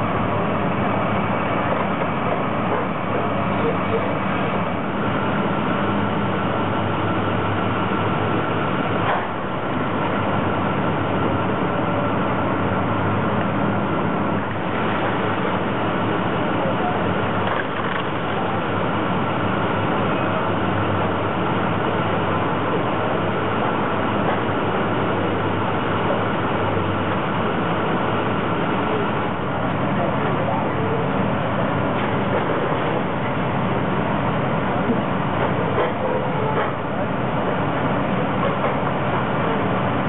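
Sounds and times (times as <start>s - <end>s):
diesel engine hum: 0.0s - 40.0s.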